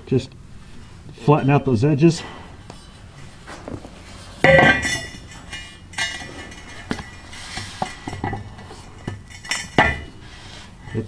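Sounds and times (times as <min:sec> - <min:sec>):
steel pipes clanking: 0:00.6 - 0:11.0.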